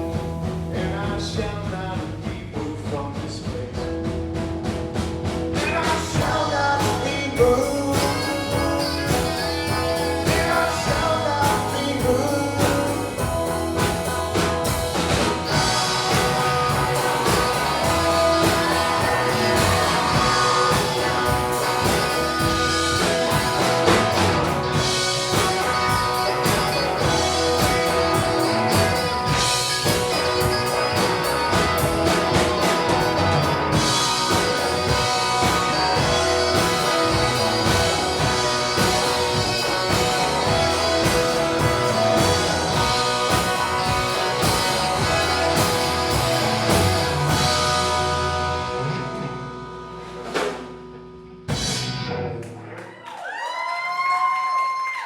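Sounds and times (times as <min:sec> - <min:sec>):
blues-rock band instrumental: 0:00.0 - 0:53.1.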